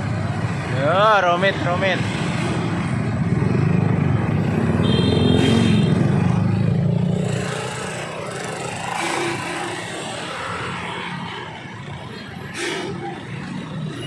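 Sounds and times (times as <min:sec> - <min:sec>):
traffic engines rumbling: 0:00.0 - 0:14.0.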